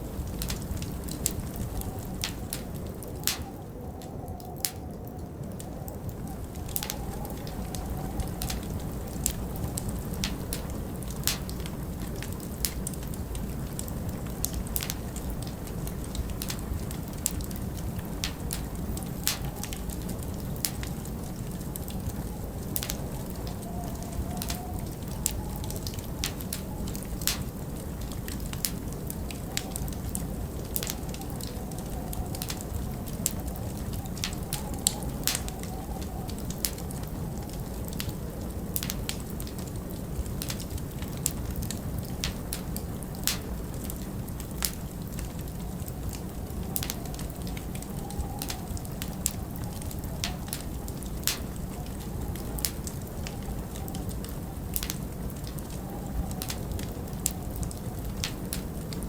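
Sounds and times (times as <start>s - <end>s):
log fire crackling and popping: 0.0s - 59.0s
wind whistling: 0.0s - 59.0s.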